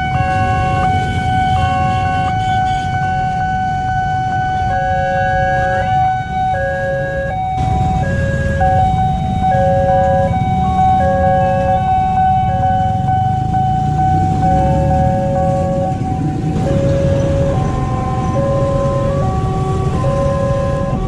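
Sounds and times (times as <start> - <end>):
level-crossing alarm tones: 3.0 - 21.0.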